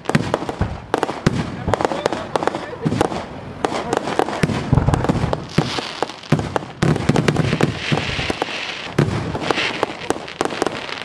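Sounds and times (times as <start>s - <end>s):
crackling pops of firework sparks: 0.0s - 11.0s
deep firework booms: 0.0s - 11.0s
hissing crackle: 0.0s - 11.0s.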